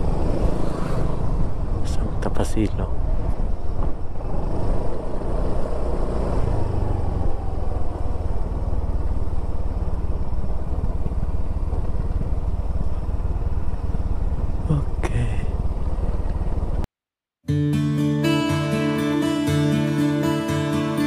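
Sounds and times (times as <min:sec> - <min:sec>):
vehicle engine rumbling: 0:00.0 - 0:16.9.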